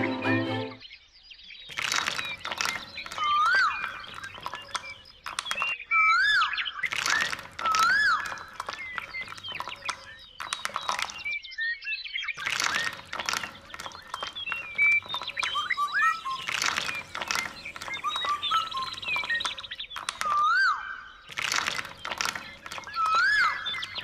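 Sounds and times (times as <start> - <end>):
small birds chirping: 0.8 - 24.0.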